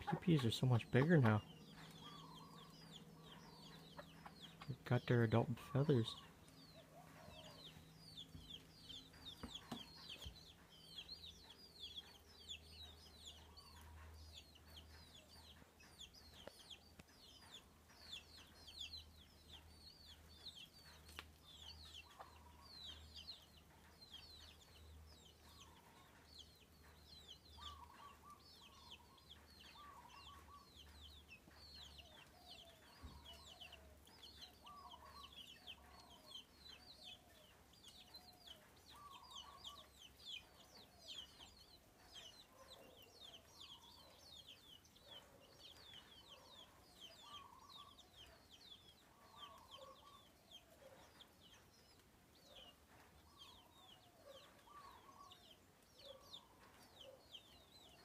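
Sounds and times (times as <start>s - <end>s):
chicks peeping: 0.0s - 58.0s.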